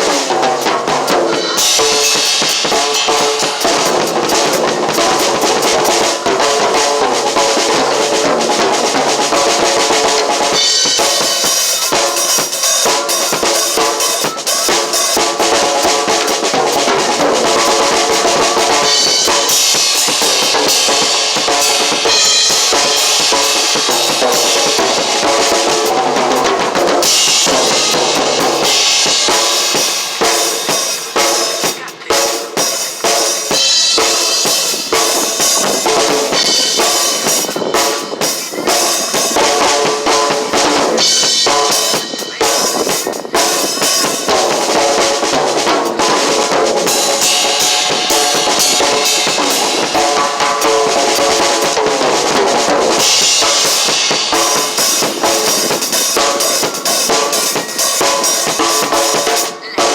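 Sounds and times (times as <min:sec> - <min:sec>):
cymbal washes: 0:00.0 - 0:06.2, 0:09.2 - 0:46.0, 0:53.0 - 0:59.8
fast drum strikes: 0:00.0 - 0:59.9.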